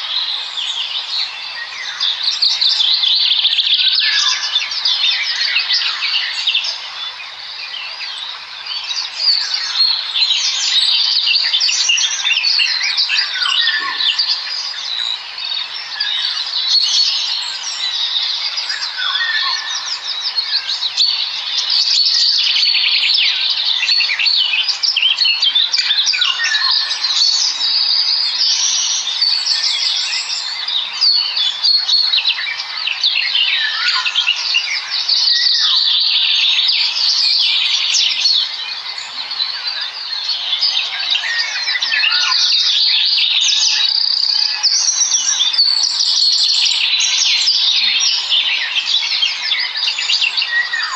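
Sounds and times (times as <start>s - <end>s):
small birds chittering: 0.0s - 50.9s.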